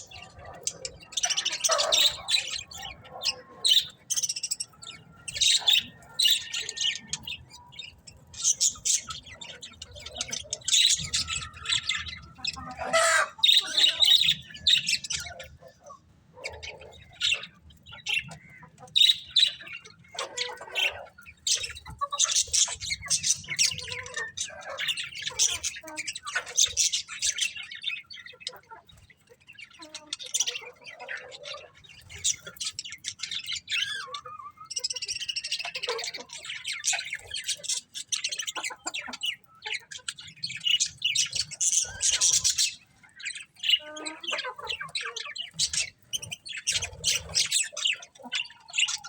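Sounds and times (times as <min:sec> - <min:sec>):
bird squawks: 0:00.0 - 0:28.7, 0:29.7 - 0:49.0
budgerigars chirping: 0:00.0 - 0:49.0.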